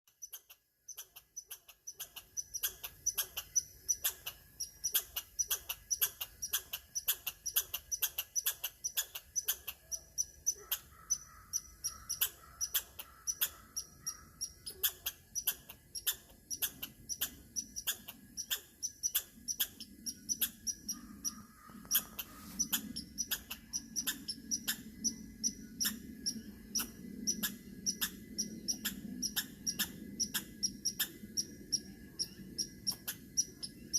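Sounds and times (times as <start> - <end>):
squirrel chirping: 0.1 - 33.9.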